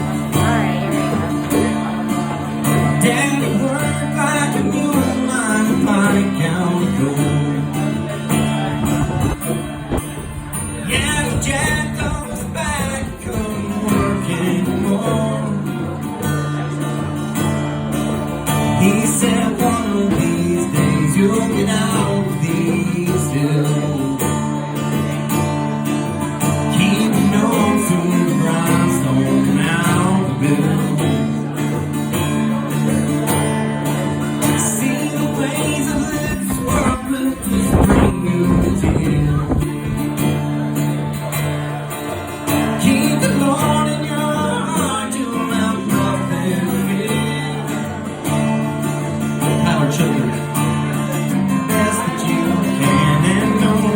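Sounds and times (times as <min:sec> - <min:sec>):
acoustic country band guitar: 0:00.0 - 0:53.9.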